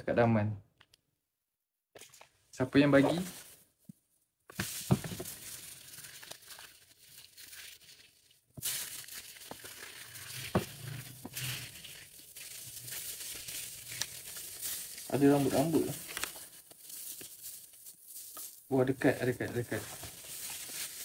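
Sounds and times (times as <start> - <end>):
gift wrapping rustling and tearing: 3.0 - 3.8, 4.5 - 21.0.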